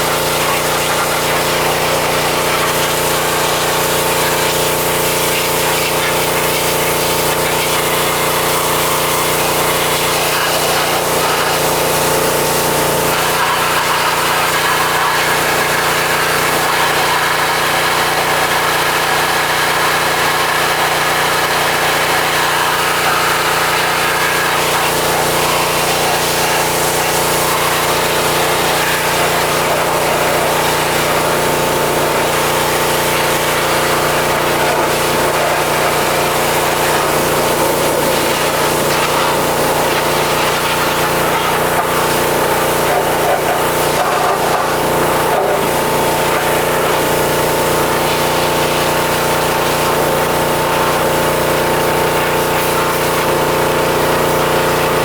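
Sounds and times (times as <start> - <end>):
pressure washer hum: 0.0 - 55.0
water spray hissing: 0.0 - 55.0.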